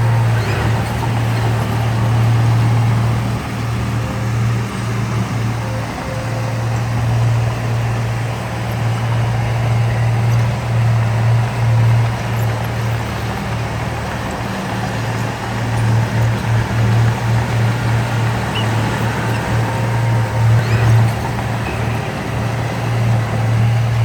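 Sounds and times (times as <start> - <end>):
heavy diesel engine droning: 0.0 - 24.0.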